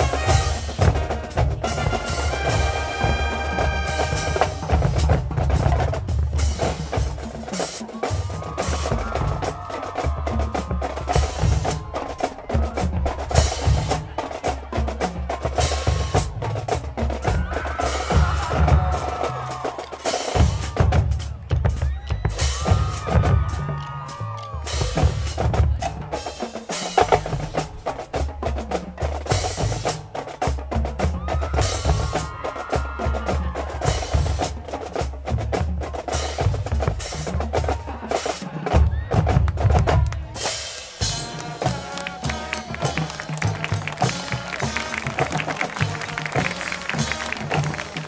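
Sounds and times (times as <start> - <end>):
drumline snare and bass drums: 0.0 - 48.0.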